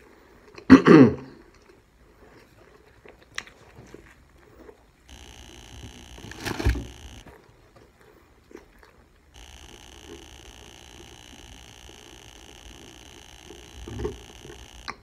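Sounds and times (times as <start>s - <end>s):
person chewing food: 0.0s - 0.7s, 1.3s - 15.0s.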